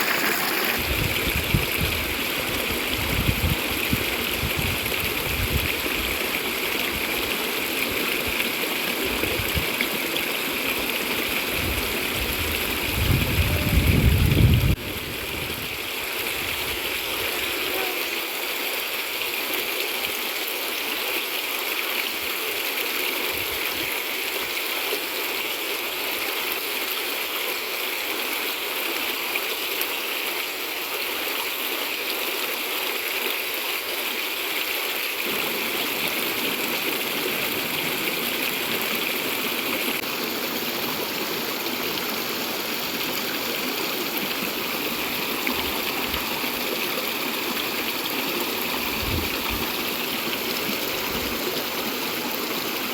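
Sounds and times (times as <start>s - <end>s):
river water running over rocks: 0.0s - 13.1s, 14.8s - 52.9s.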